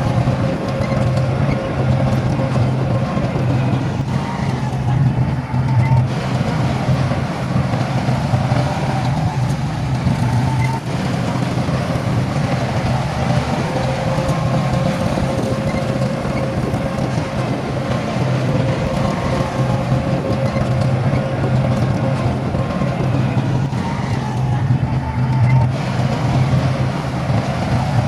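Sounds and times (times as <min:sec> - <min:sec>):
faint whine: 0:00.0 - 0:28.0
heavy diesel engine rumbling: 0:00.0 - 0:28.0.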